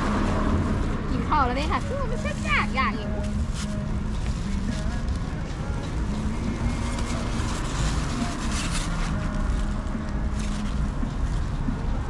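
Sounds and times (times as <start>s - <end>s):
low street rumble: 0.0s - 12.0s
plastic bags rustling: 0.0s - 12.0s
foam boxes being handled: 1.6s - 11.8s.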